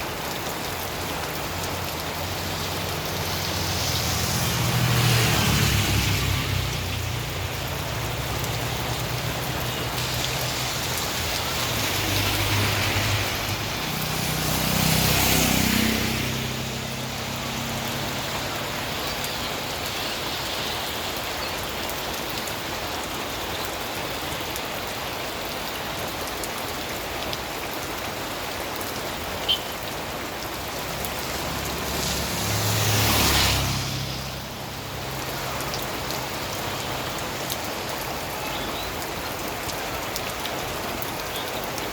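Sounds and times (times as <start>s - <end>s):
steady rain falling: 0.0s - 41.9s
vehicles passing on wet road: 0.0s - 41.9s.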